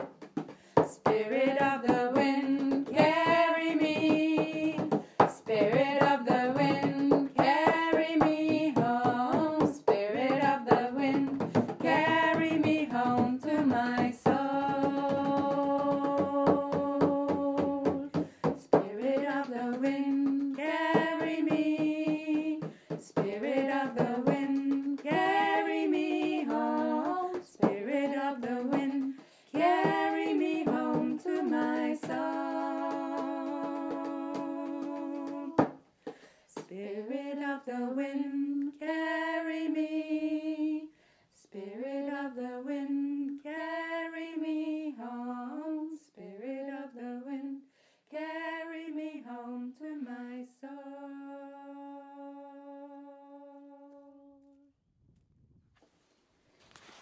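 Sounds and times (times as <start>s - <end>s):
voices singing a slow chant: 1.0s - 18.2s, 18.8s - 35.7s, 36.6s - 54.6s.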